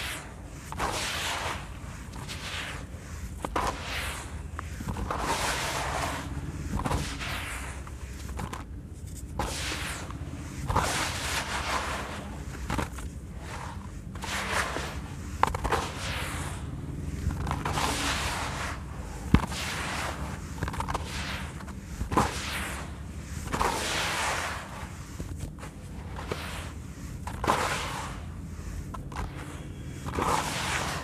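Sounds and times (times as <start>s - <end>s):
gritty crunching of sand mix: 0.0s - 31.0s.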